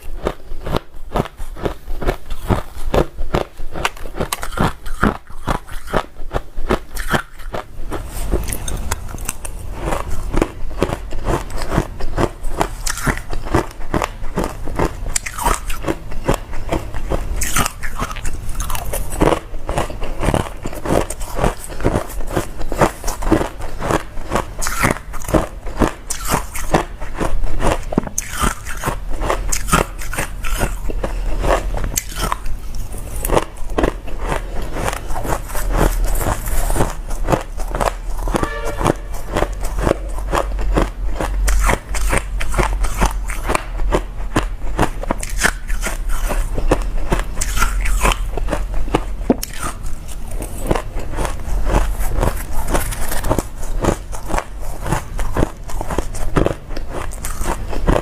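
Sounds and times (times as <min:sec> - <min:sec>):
chewing ice crunches: 0:00.0 - 0:58.0.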